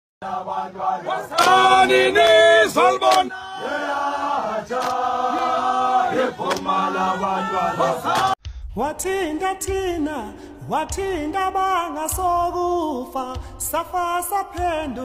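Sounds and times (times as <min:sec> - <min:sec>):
men singing a chant: 0:00.2 - 0:15.0.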